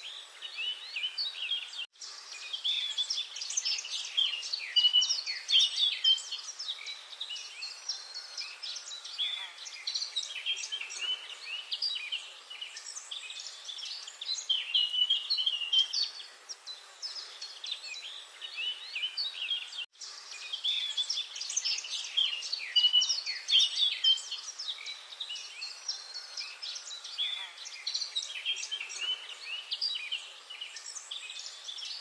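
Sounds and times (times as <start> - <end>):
many small birds chirping: 0.0 - 32.0.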